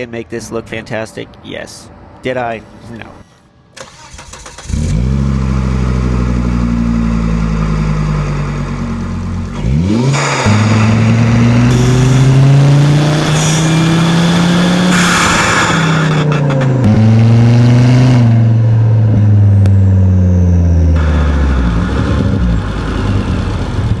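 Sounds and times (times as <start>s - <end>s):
car engine revving through open exhaust: 4.6s - 24.0s.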